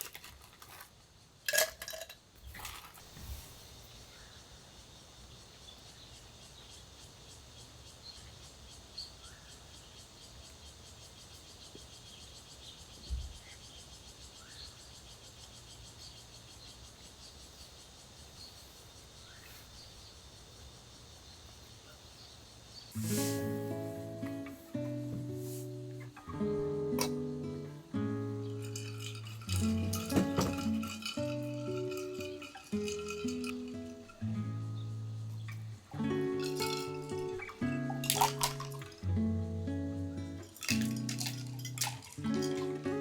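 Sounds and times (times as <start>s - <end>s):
insects trilling: 2.4s - 43.0s.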